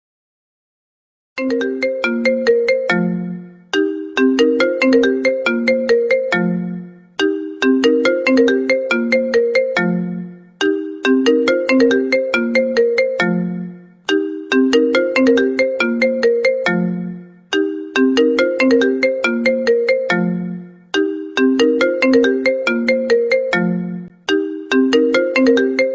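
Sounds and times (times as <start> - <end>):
phone ringtone melody: 1.4 - 25.9.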